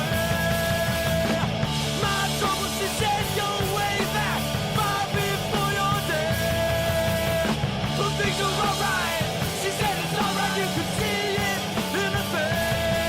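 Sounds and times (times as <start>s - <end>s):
punk rock song: 0.0s - 13.0s.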